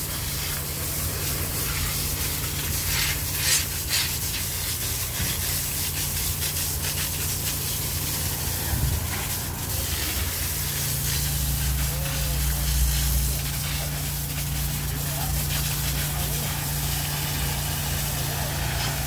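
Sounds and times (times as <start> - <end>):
water jet spraying on steel: 0.0 - 19.0.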